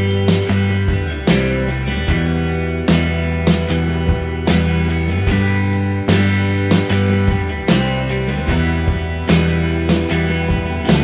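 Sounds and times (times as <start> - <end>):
guitar-led music with drums: 0.0 - 11.0.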